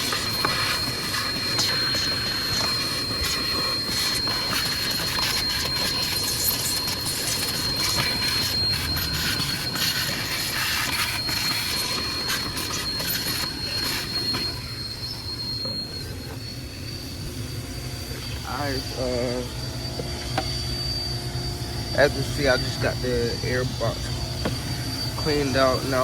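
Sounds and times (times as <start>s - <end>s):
vacuum hose rushing air: 0.0s - 26.0s.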